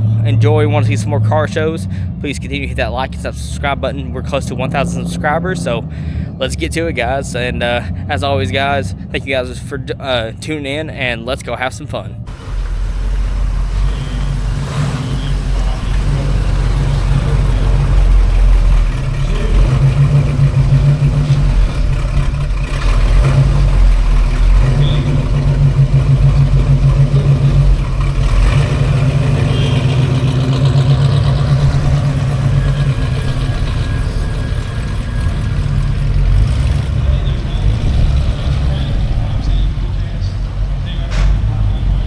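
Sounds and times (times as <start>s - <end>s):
car engines idling: 0.0s - 42.0s.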